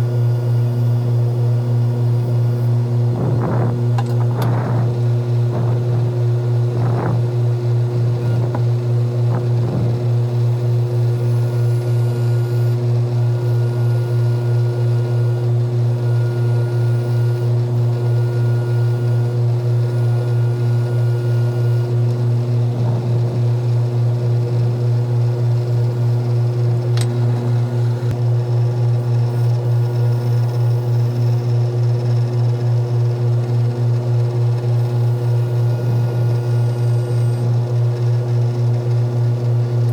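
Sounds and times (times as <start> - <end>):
small motor humming: 0.0 - 39.9.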